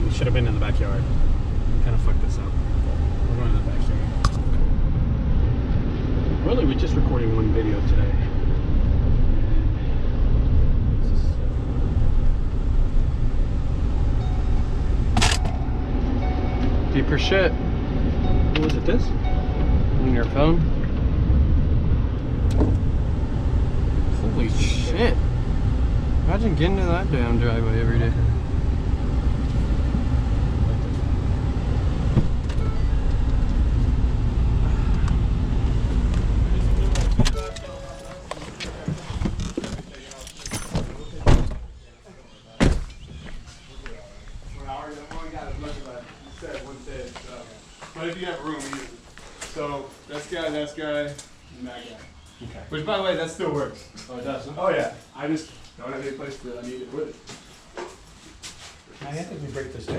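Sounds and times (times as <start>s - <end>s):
vehicle running with road noise: 0.0s - 59.9s.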